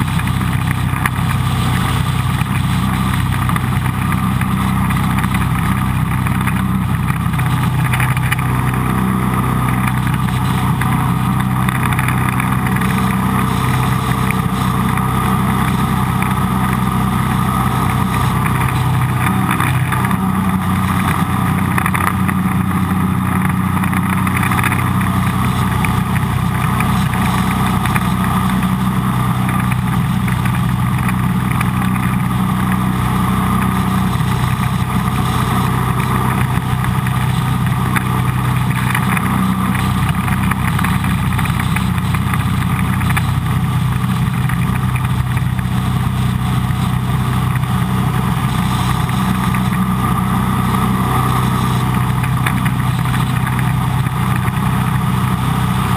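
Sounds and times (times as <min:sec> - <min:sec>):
boat engine drone: 0:00.0 - 0:55.9
water rushing: 0:00.0 - 0:55.9.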